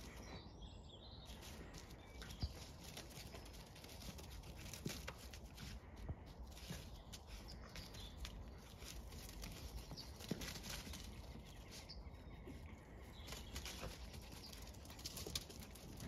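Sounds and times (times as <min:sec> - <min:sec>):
dogs scuffling on grass: 0:01.2 - 0:16.0
paw patter: 0:01.3 - 0:16.0.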